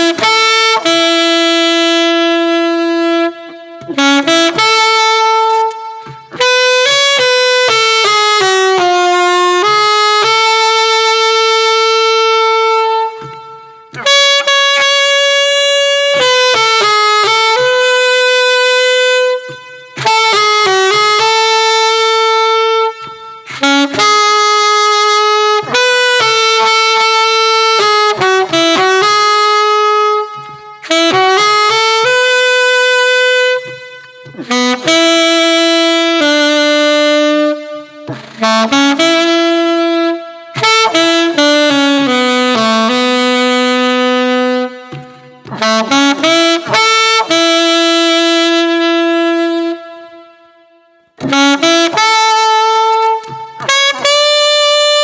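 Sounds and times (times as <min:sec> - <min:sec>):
solo saxophone melody: 0:00.0 - 0:55.0.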